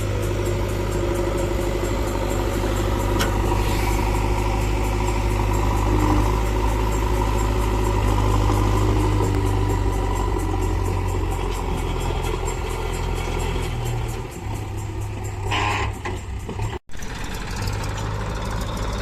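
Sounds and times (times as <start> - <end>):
fast even ticking: 0.0 - 15.5
engine idling: 0.0 - 19.0.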